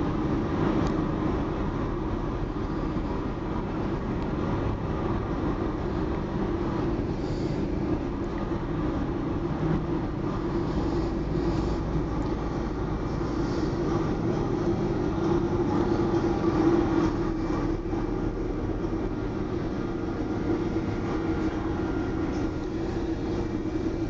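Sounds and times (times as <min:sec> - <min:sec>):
ferry engines droning: 0:00.0 - 0:24.0.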